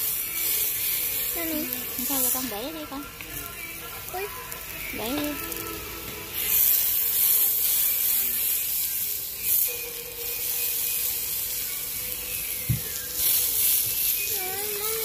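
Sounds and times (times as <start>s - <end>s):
beef sizzling on hot stone: 0.0s - 15.0s.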